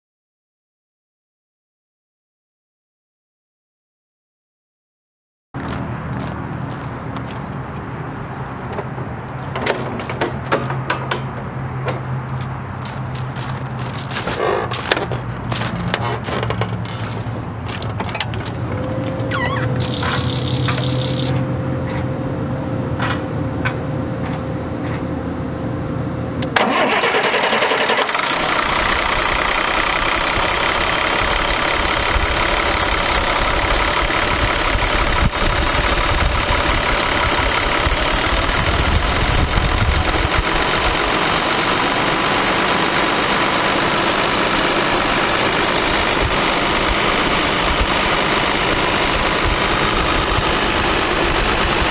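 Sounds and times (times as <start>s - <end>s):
diesel engine starting and idling: 5.6s - 51.9s.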